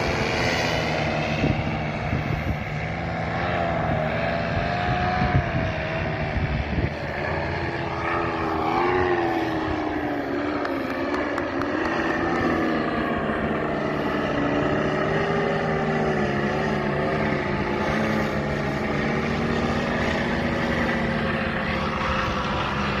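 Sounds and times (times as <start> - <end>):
aircraft propeller motor: 0.0 - 23.0
wind rumble on microphone: 0.0 - 23.0.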